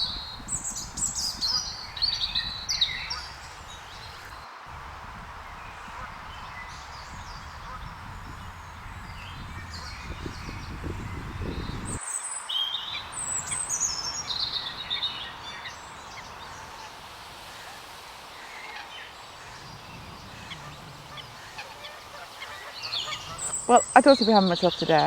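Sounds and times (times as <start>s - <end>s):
small birds chirping: 0.0s - 4.4s, 5.5s - 25.0s
outdoor background noise: 0.0s - 25.0s.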